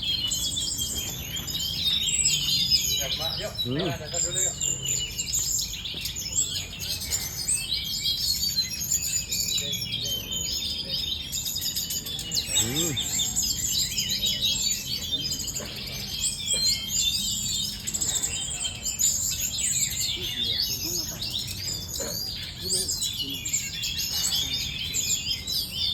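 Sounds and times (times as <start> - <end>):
songbird chirping and trilling: 0.0 - 25.9.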